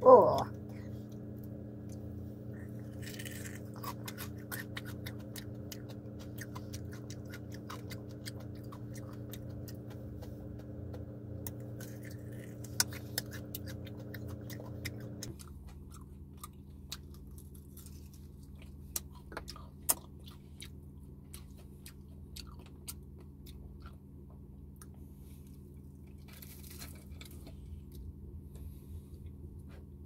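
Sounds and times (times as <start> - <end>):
low hum: 0.0 - 30.0
chewing and crunching crispy food: 0.1 - 28.4.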